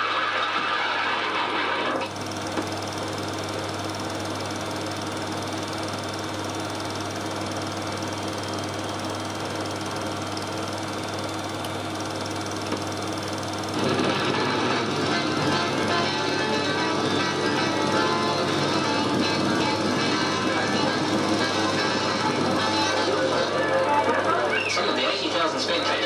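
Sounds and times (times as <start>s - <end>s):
film projector whirring: 0.0s - 26.0s.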